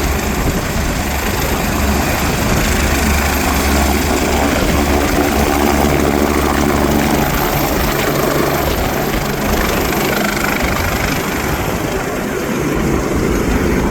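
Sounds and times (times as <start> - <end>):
helicopter running: 0.0 - 13.9.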